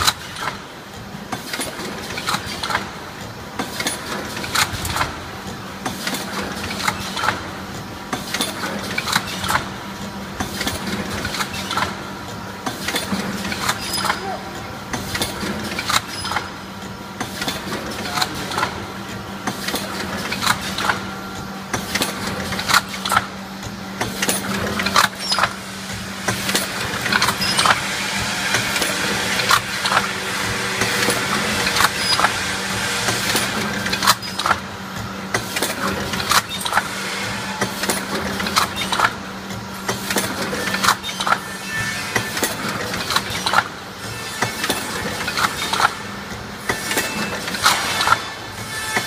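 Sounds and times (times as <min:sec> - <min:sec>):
pneumatic clacks and clicks: 0:00.0 - 0:49.0.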